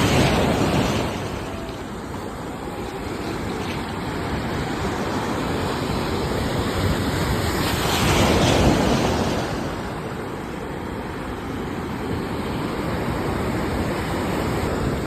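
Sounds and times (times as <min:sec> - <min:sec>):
ocean waves rushing in: 0:00.0 - 0:15.0.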